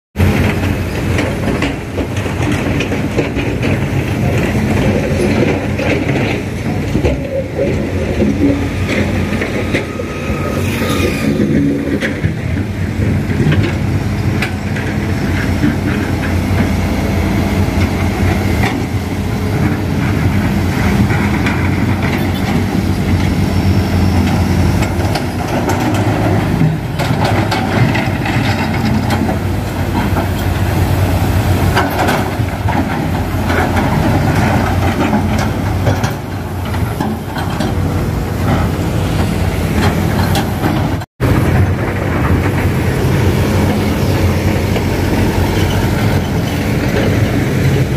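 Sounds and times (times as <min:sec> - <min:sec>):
diesel engine rattling drone: 0:00.2 - 0:47.9.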